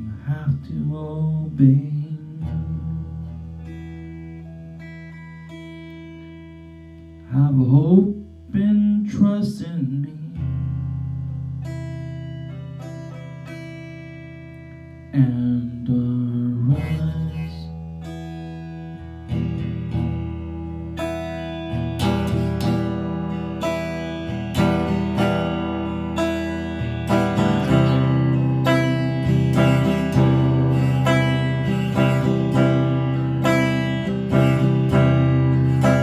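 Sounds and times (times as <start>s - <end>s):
electric guitar strumming chords: 0.0s - 36.0s.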